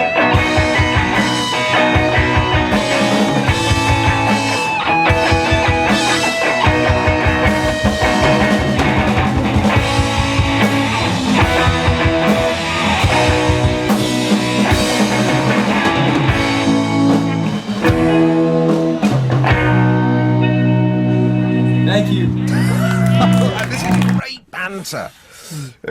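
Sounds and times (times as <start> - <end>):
drum kit: 0.0 - 24.2
guitar: 0.0 - 24.3.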